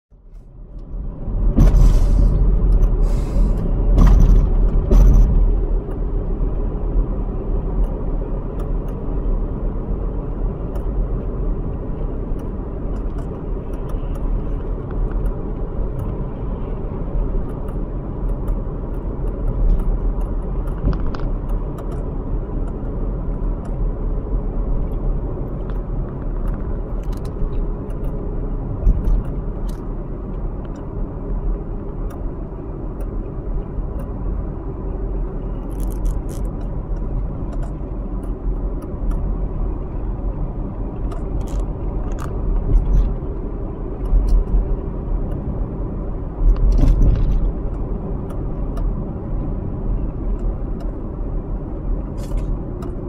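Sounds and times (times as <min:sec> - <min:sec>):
car engine rumble: 0:00.1 - 0:53.0
road noise inside car: 0:00.1 - 0:53.0.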